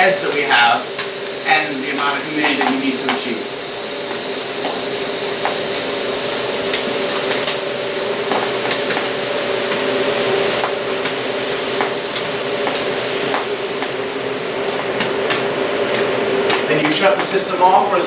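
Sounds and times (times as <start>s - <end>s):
fogging nozzles hissing: 0.0s - 18.0s.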